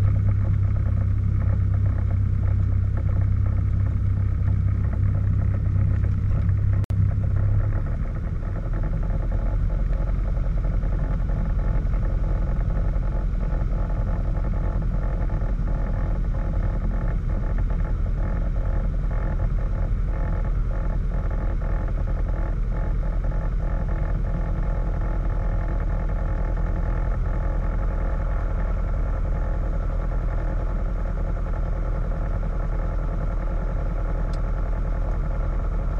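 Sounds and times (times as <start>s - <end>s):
airplane engine drone in cabin: 0.0s - 35.9s.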